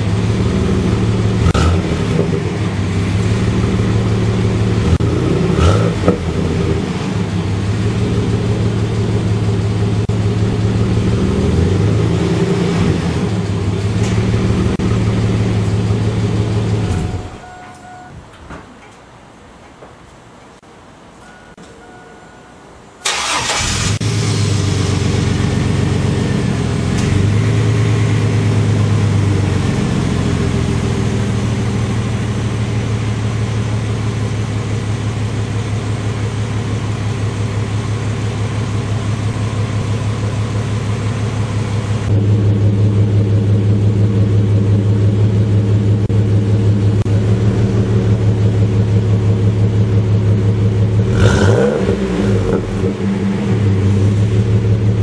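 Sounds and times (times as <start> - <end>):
truck engine starting and idling: 0.0 - 18.1, 23.0 - 55.0.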